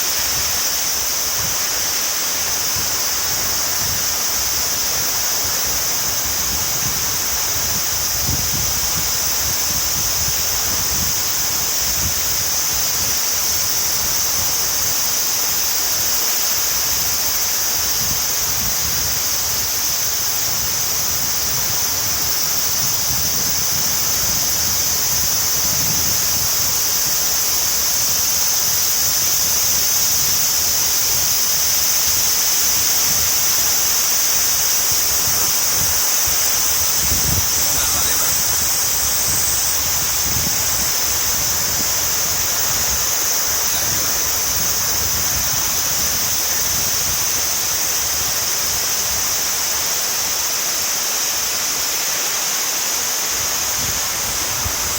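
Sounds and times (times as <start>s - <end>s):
rushing river water: 0.0s - 54.9s.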